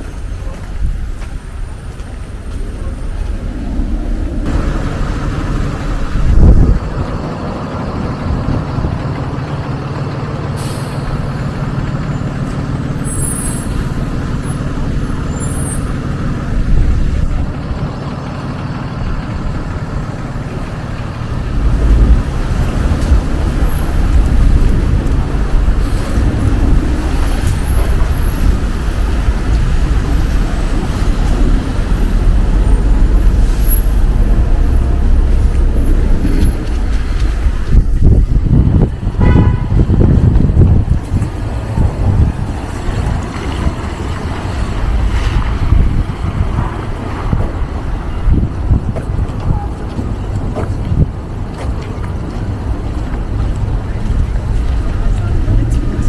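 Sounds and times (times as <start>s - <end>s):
heavy low rumble: 0.0s - 56.0s
heavy vehicle engine hum: 0.0s - 56.0s.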